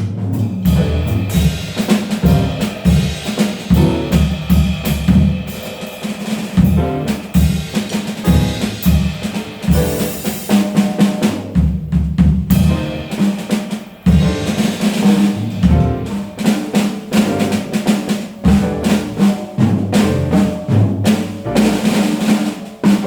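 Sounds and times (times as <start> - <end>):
drum kit hits: 0.0 - 23.0
jazz trio playing: 0.0 - 23.0.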